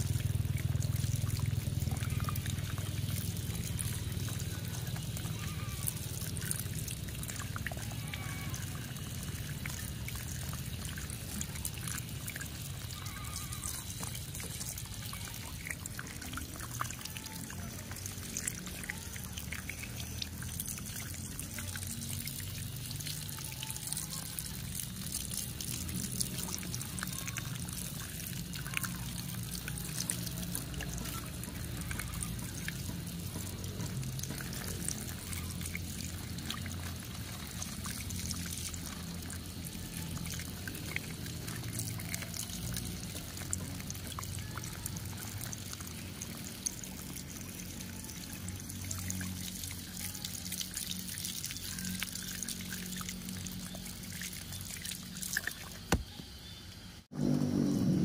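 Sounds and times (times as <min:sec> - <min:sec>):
water trickling over plastic toy: 0:00.0 - 0:56.4.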